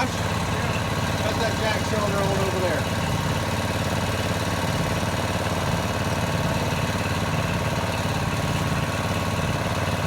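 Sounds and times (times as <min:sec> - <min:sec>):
hydraulic pump engine running: 0:00.0 - 0:10.0.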